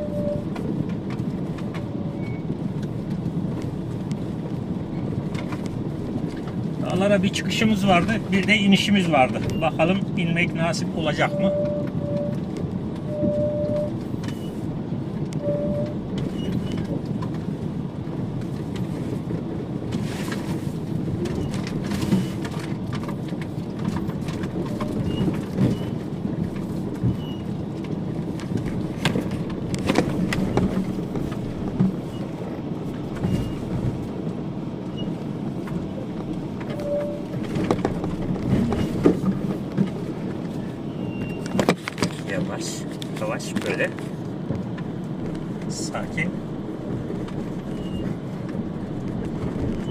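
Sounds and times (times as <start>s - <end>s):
body and suspension rattling: 0.0s - 49.9s
van engine running low: 0.0s - 49.9s.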